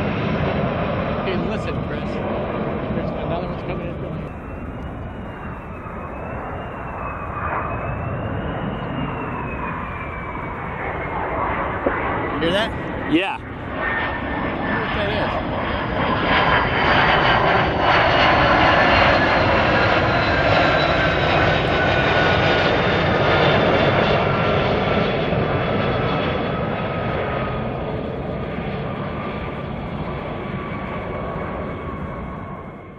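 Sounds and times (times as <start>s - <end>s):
fighter jet roaring overhead: 0.0s - 32.9s.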